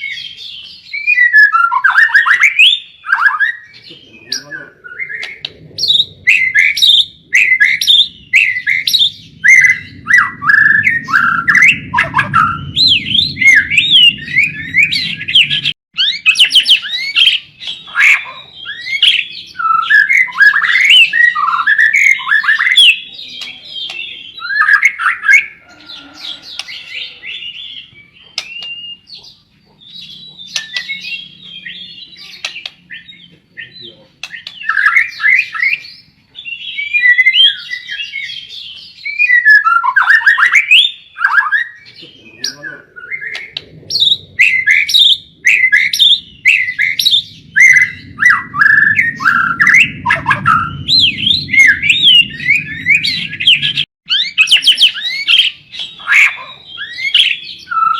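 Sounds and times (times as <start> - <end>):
bird singing varied whistles: 0.0 - 25.5, 29.9 - 57.9.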